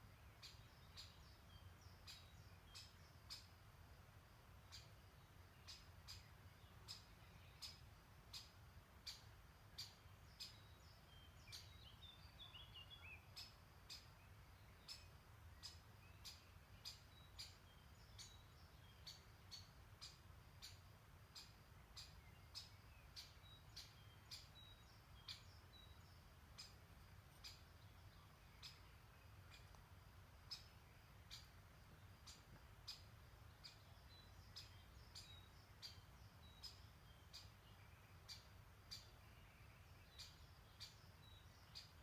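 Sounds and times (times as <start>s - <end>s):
bird chirping: 0.0s - 3.6s, 4.2s - 42.0s.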